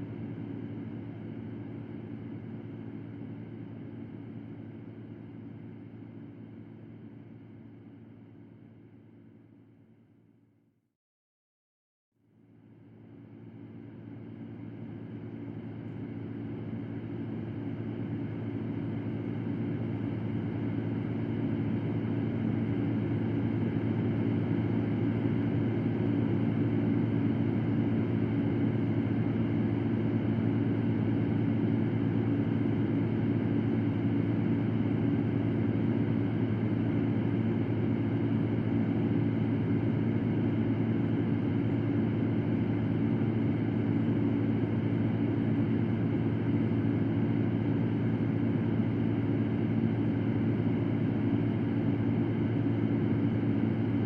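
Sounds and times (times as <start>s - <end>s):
electric fan whirring hum: 0.0s - 5.0s, 13.6s - 54.0s.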